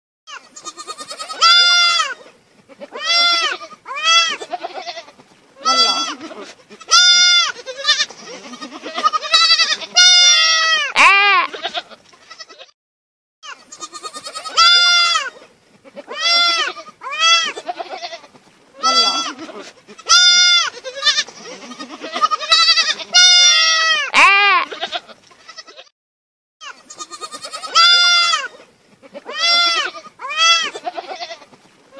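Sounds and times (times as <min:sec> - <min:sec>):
goat kid bleating: 0:00.3 - 0:12.7, 0:13.4 - 0:25.9, 0:26.6 - 0:31.5.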